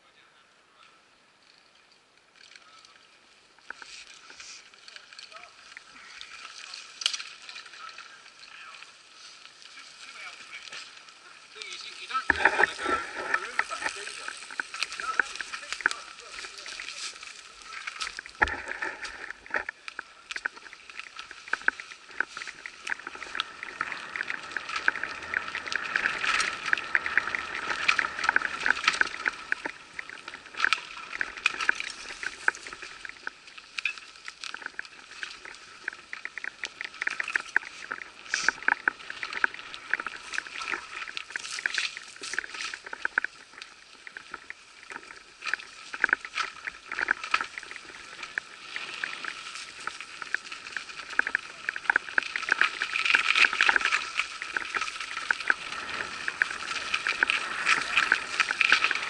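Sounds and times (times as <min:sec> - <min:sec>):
tyres on dirt and leaves: 0:01.8 - 0:59.0
bike rattling on rough trail: 0:03.6 - 0:59.0.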